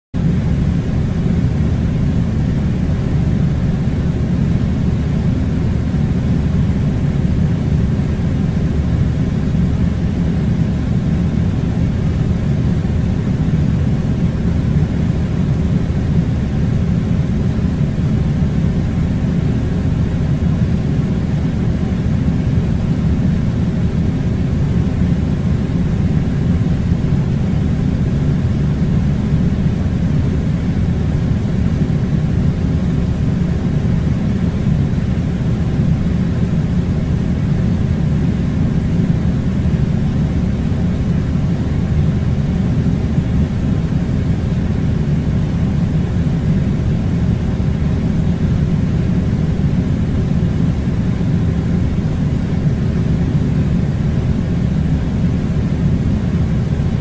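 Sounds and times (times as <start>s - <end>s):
fan blower rushing air: 0.2s - 57.0s.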